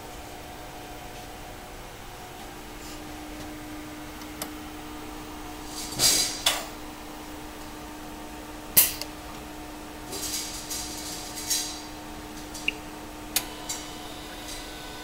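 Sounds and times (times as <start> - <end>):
welding machine hum: 1.8 - 15.0.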